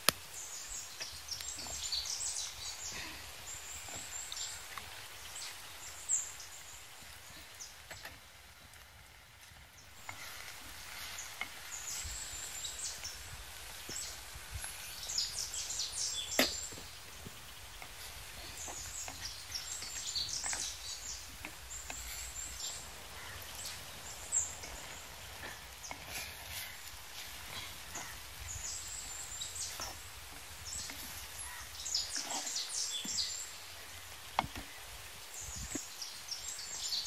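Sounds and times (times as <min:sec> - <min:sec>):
small birds chirping: 0:00.0 - 0:37.0
steady background hiss: 0:00.0 - 0:37.0.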